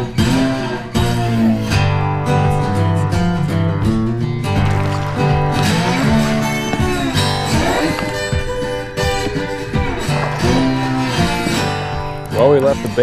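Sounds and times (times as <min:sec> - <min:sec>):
guitar-led song: 0:00.0 - 0:13.0.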